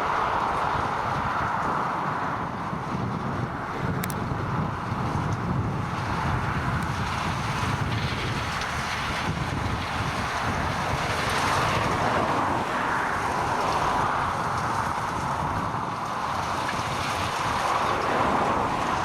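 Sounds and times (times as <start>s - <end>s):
tractor engine and machinery: 0.0s - 19.0s
wind buffeting microphone: 0.0s - 19.0s.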